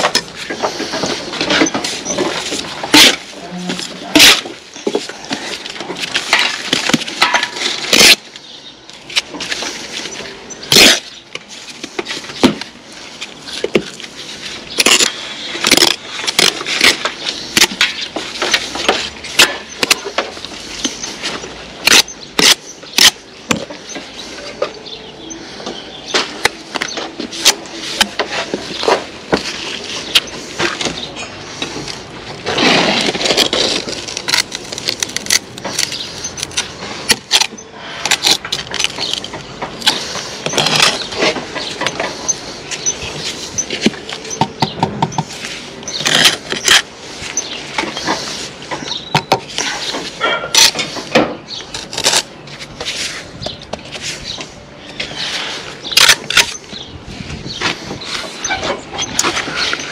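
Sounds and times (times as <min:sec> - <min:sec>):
trowel scraping and slapping mortar: 0:00.0 - 0:08.3, 0:09.1 - 0:24.0, 0:26.2 - 0:54.4.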